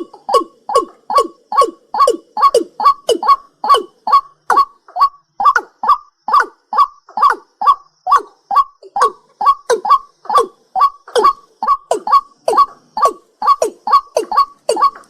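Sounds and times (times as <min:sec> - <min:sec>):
night bird calling: 0:00.0 - 0:15.0.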